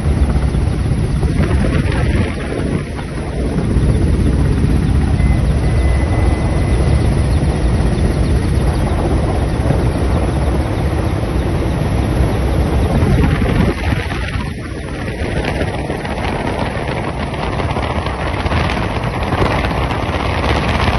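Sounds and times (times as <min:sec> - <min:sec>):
helicopter rotors beating: 0:00.0 - 0:20.9.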